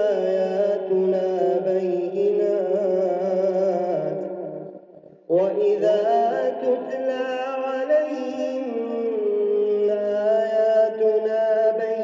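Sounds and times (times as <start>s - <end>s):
man chanting melodically: 0.0s - 4.5s, 5.3s - 12.0s.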